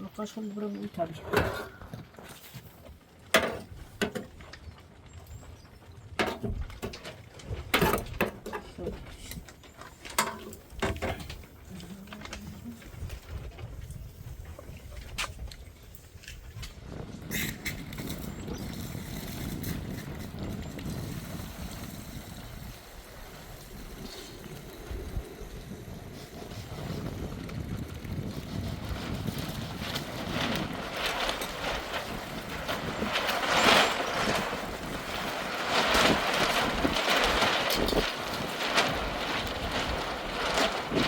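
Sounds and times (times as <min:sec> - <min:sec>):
wind buffeting microphone: 0:00.2 - 0:41.0
storm wind gusts: 0:05.1 - 0:41.0.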